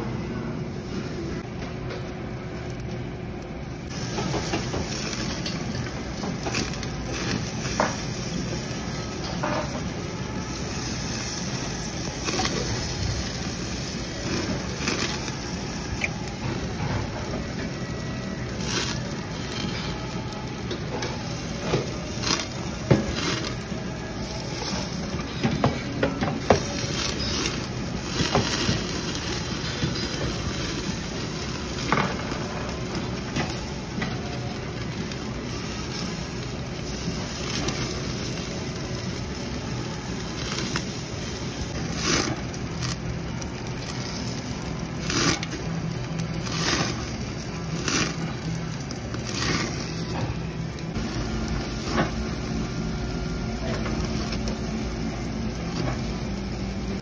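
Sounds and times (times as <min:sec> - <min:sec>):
meat sizzling on a grill: 0:03.7 - 0:57.0.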